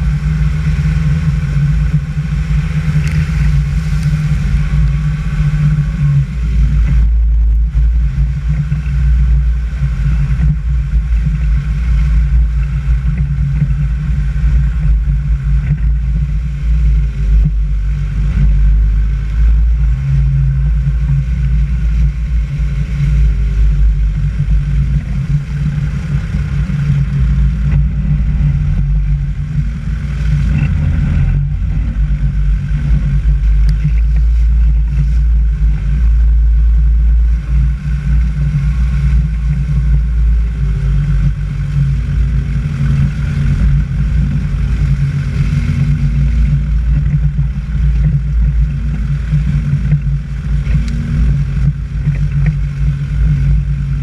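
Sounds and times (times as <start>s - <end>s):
vehicle driving on muddy road: 0.0s - 54.0s.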